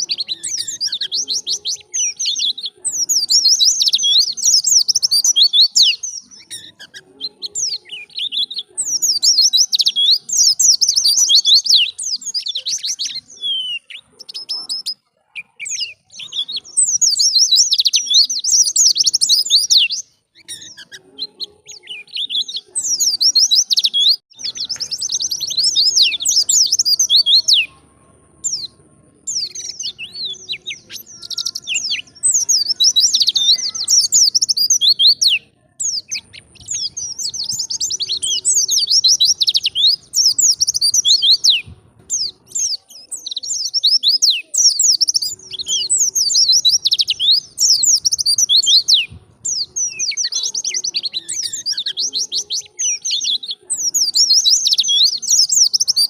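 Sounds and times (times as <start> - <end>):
bird twittering chirps: 0.0 - 56.0.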